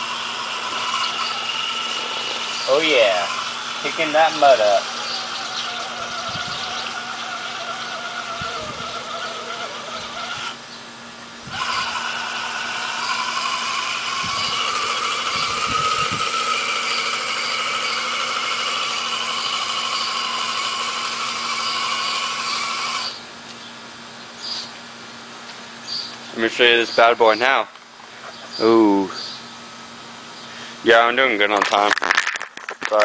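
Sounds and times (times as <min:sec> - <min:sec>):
electric motor and gears whining: 0:00.0 - 0:29.6.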